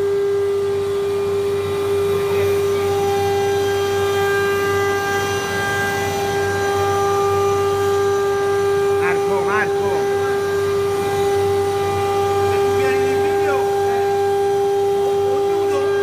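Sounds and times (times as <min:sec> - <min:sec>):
router spindle high whine: 0:00.0 - 0:16.0
steady low hum: 0:00.0 - 0:16.0.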